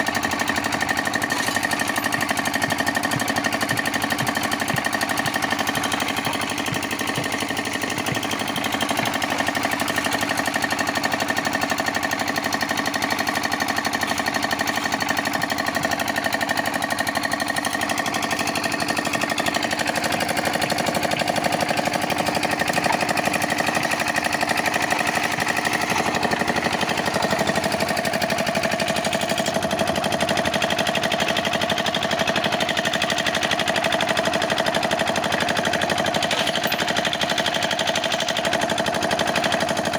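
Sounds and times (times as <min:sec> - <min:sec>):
concrete mixer running: 0:00.0 - 0:39.9.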